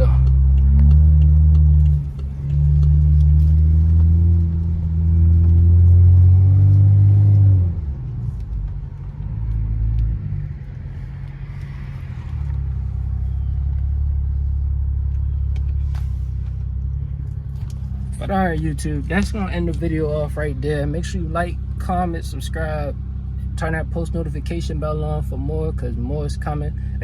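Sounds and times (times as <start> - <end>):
car exhaust droning: 0.0 - 27.0.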